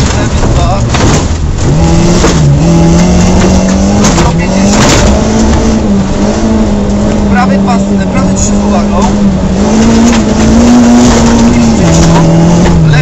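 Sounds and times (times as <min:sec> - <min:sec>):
car engine at full throttle: 0:00.0 - 0:13.0
tyres rushing on wet track: 0:00.0 - 0:13.0.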